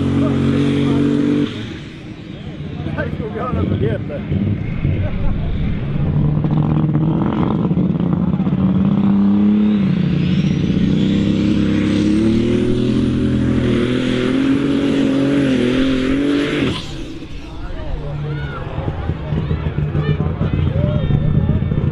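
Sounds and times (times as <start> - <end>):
high whine: 0.0 - 21.9
tractor engine at full throttle: 0.0 - 21.9.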